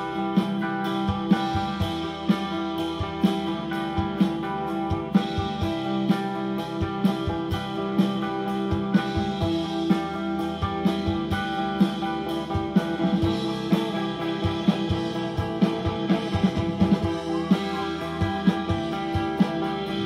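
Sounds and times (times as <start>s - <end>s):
drum kit: 0.0s - 20.0s
electric bass: 0.0s - 20.0s
electric guitars: 0.0s - 20.0s
heavy drum accent: 0.0s - 20.0s.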